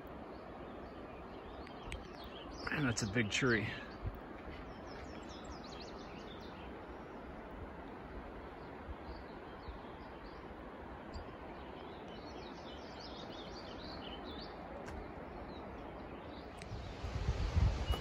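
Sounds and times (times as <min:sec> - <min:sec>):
faint steady hiss: 0:00.0 - 0:18.0
small birds chirping: 0:00.1 - 0:07.2, 0:08.4 - 0:18.0.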